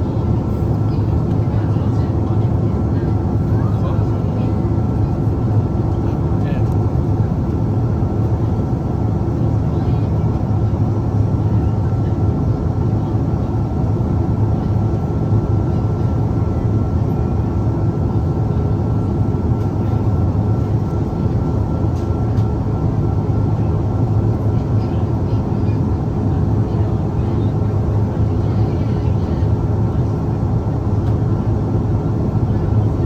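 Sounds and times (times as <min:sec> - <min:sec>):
jet engines inside cabin: 0:00.0 - 0:33.0.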